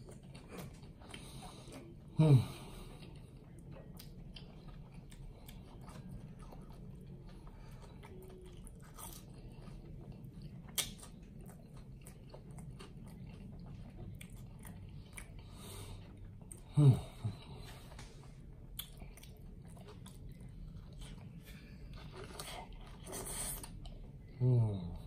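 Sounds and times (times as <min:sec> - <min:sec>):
chewing food: 0:00.0 - 0:24.4.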